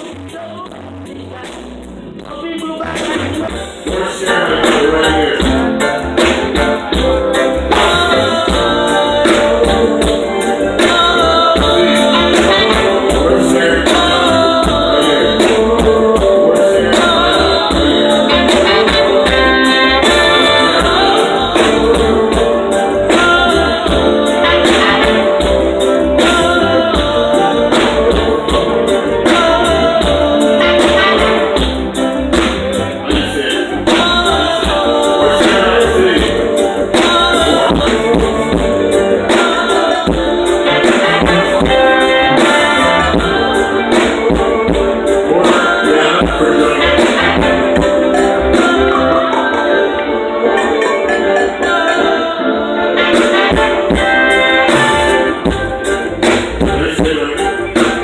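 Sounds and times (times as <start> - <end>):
reggae band playing: 0.0 - 58.0
person singing: 2.2 - 58.0.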